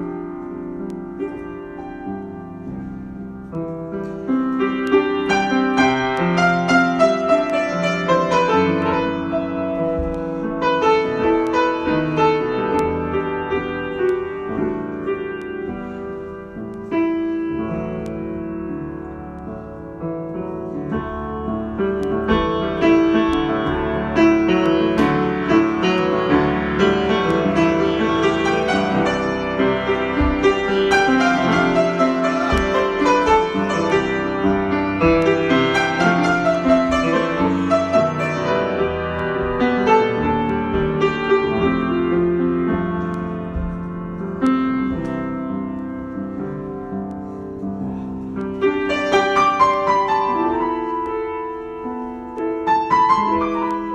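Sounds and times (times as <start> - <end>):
solo piano improvisation: 0.0 - 53.9.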